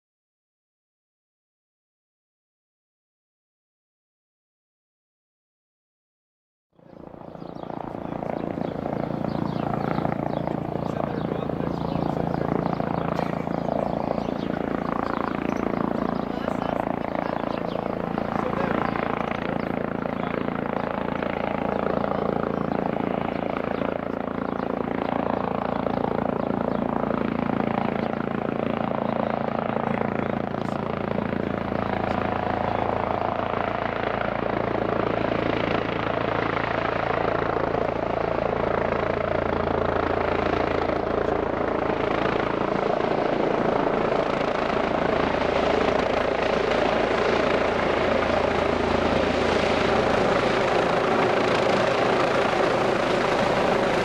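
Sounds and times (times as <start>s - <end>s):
helicopter turbine and rotor: 6.8s - 54.0s.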